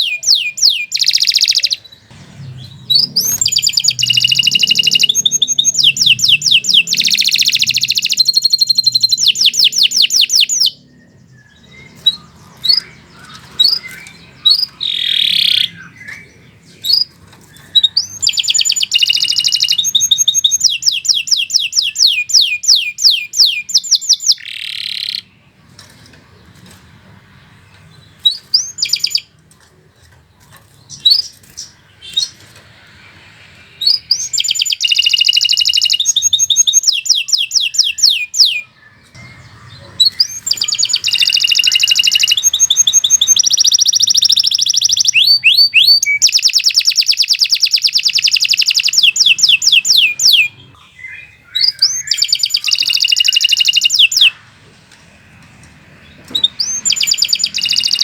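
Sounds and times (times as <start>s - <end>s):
canary trilling: 0.0s - 26.7s, 27.9s - 29.3s, 33.8s - 54.5s, 56.0s - 58.0s
canary chirps: 0.0s - 29.4s, 30.4s - 54.6s, 55.8s - 58.0s.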